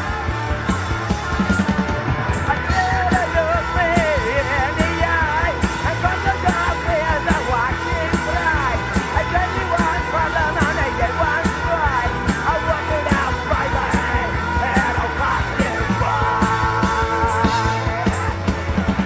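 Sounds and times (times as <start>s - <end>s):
punk rock band playing: 0.0s - 19.0s.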